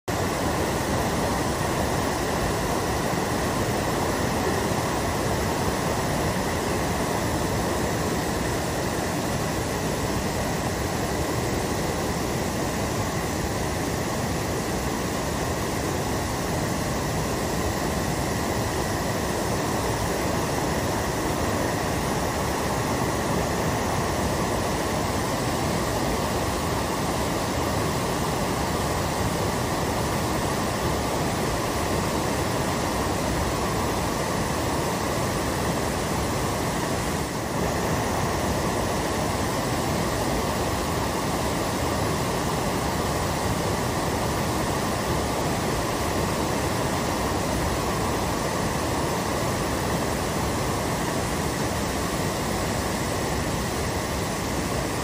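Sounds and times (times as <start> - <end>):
waterfall and rapids rushing: 0.1 - 55.0.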